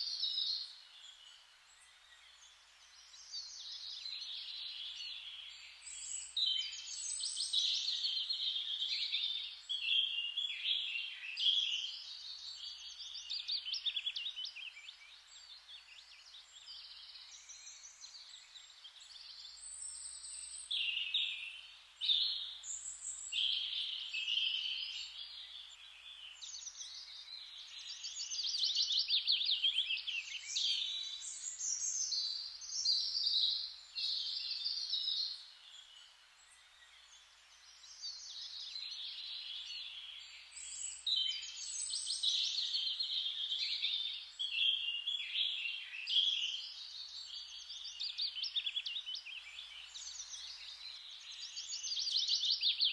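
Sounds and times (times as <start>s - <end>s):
faint steady hiss: 0.0s - 52.9s
songbirds singing: 0.0s - 52.9s.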